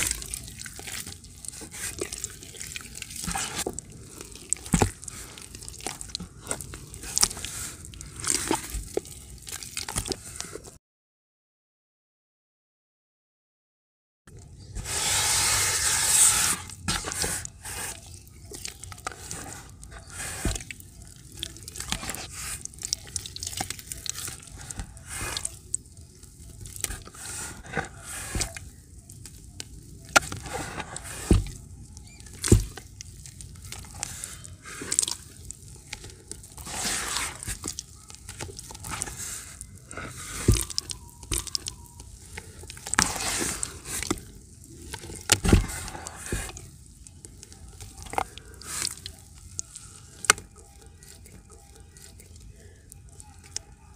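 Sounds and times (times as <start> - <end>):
slurry pouring into bucket: 0.0 - 10.5, 14.8 - 53.0
slurry plops: 0.0 - 10.6, 14.8 - 53.7
wet slurry squelching in bucket: 0.0 - 10.8, 14.4 - 53.7.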